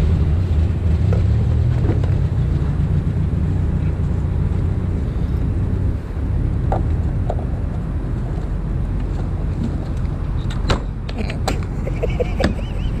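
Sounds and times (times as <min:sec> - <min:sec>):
road and engine rumble inside car: 0:00.0 - 0:13.0.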